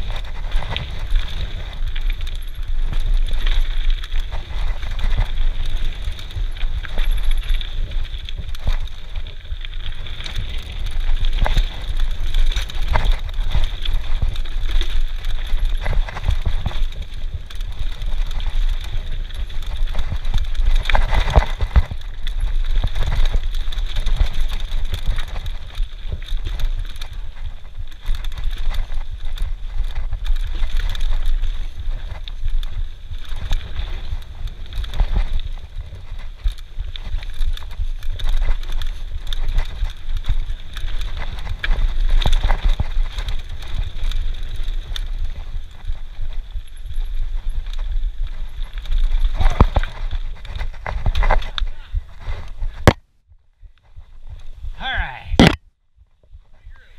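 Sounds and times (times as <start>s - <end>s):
bike knocks and rattles: 0.0s - 53.0s
wind and tyre rumble: 0.0s - 56.9s.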